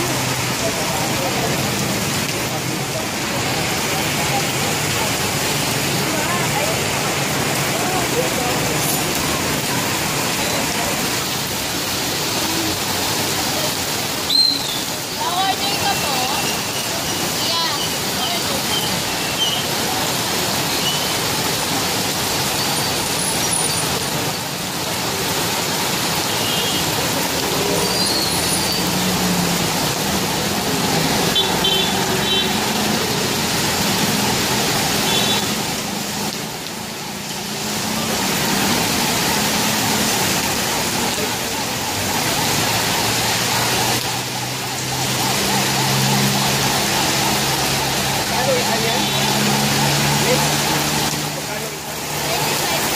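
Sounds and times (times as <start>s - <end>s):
heavy rain pouring: 0.0s - 52.9s
tyres swishing on wet road: 0.0s - 52.9s.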